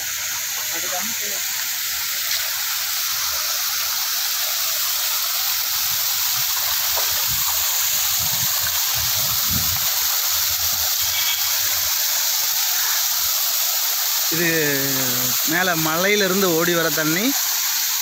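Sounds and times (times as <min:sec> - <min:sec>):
small waterfall splashing onto rocks: 0:00.0 - 0:18.0.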